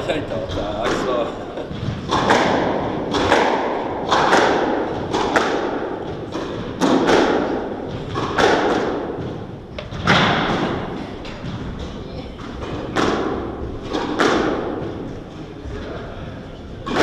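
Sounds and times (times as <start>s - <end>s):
squash ball hits ringing in hall: 0.0s - 17.0s.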